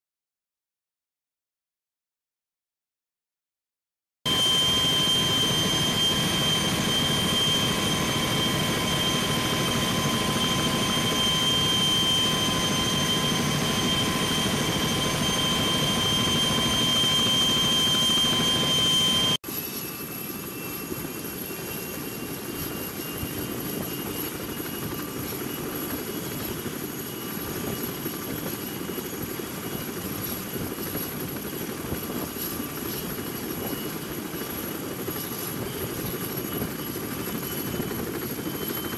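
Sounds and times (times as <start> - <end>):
helicopter rotor noise: 4.3 - 38.9.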